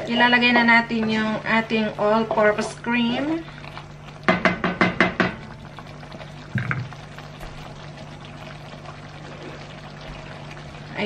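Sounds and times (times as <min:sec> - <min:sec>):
sauce simmering in a pan: 0:00.0 - 0:11.0.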